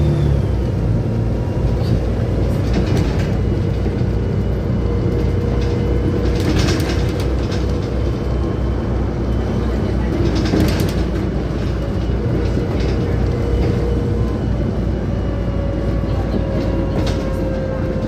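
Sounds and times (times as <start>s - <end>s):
bus diesel engine drone: 0.0s - 18.0s
road rumble: 0.0s - 18.0s
bus body and fittings rattling: 1.1s - 18.0s.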